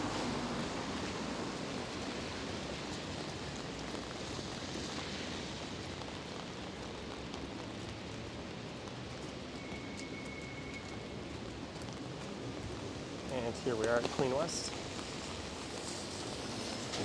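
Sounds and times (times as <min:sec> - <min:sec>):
pouring rain: 0:00.0 - 0:17.0.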